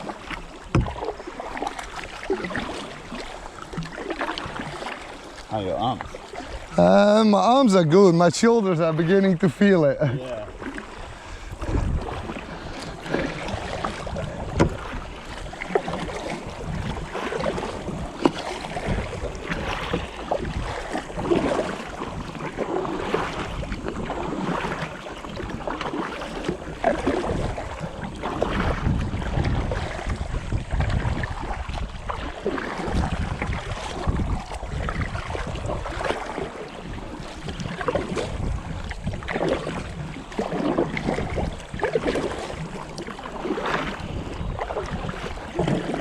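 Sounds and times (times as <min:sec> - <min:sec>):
paddle splashing in water: 0:00.0 - 0:46.0
wind buffeting microphone: 0:05.5 - 0:46.0.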